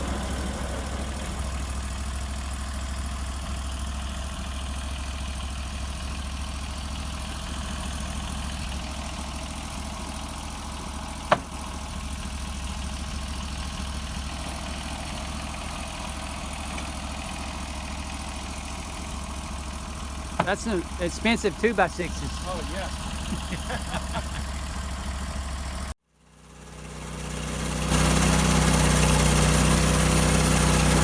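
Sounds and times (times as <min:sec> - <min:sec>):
sawmill engine running: 0:00.0 - 0:03.8, 0:06.5 - 0:25.9, 0:26.5 - 0:31.0.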